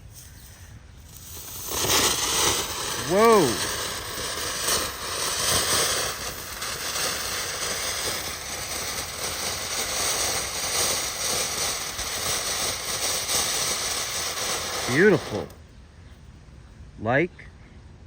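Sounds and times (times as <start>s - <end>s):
firework hissing sparks: 0.0s - 15.6s
light crackling: 0.0s - 15.6s.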